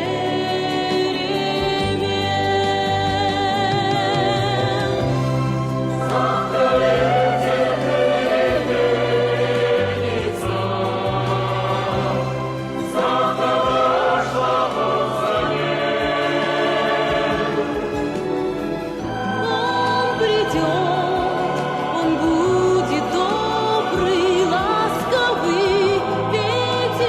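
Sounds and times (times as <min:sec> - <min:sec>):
choir singing held notes: 0:03.5 - 0:27.0.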